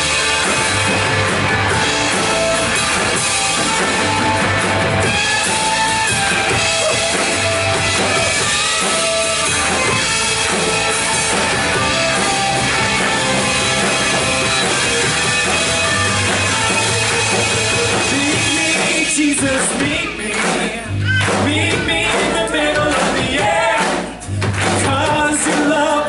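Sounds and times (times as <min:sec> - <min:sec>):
electric guitar playing: 0:00.0 - 0:24.7
drum kit: 0:00.0 - 0:26.0.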